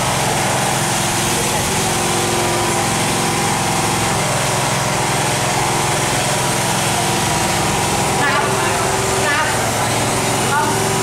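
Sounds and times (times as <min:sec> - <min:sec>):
small speedboat engine running: 0:00.0 - 0:11.0.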